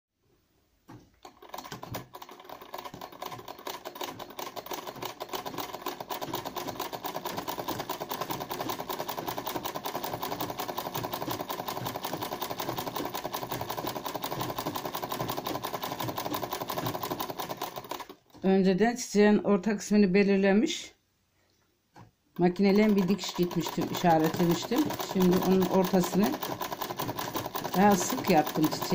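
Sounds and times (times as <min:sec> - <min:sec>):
sewing machine stitching clatter: 0:00.9 - 0:18.4, 0:22.4 - 0:28.9.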